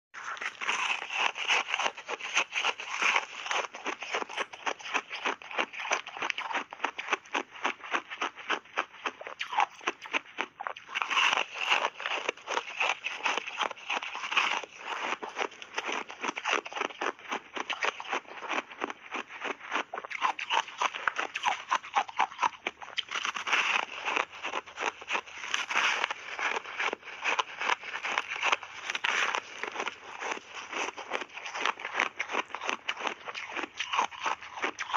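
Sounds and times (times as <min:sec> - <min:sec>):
ice crunching while chewed: 0:00.2 - 0:34.9.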